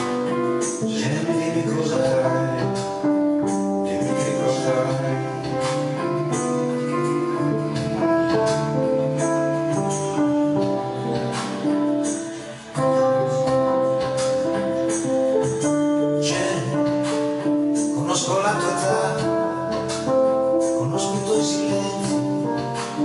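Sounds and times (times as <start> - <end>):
keyboard chords and melody: 0.0 - 23.0.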